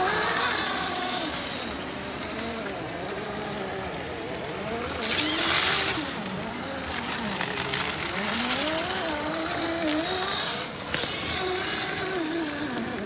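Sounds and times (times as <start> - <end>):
electric motor and gearbox whining: 0.0 - 13.0
tyres scrabbling on rock: 0.0 - 13.0.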